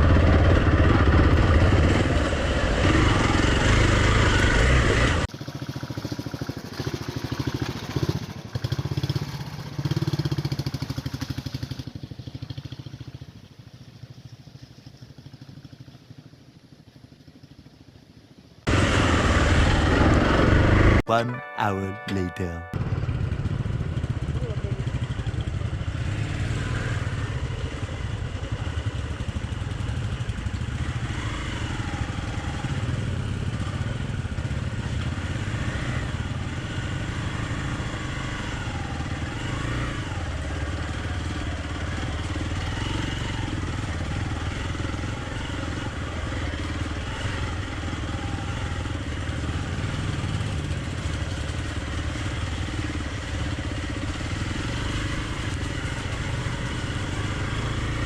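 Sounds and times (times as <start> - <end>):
motorcycle engine running: 0.0 - 21.0, 22.8 - 58.0.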